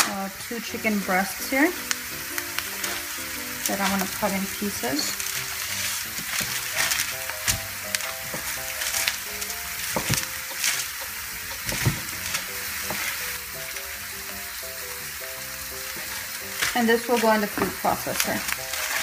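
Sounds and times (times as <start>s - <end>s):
onions sizzling in a frying pan: 0.0s - 19.0s
soft melody: 0.0s - 19.0s.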